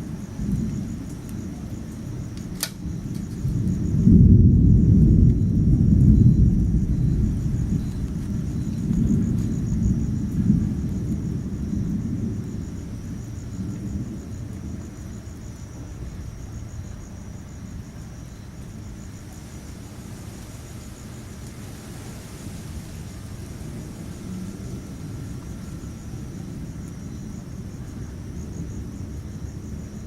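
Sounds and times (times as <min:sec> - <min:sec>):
insects chirping: 0:00.0 - 0:30.0
rolling thunder: 0:00.0 - 0:30.0.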